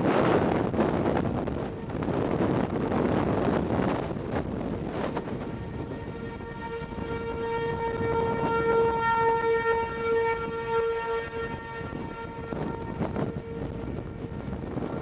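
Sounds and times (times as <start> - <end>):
low wind noise: 0.0 - 15.0
warning siren steady tone: 0.0 - 15.0.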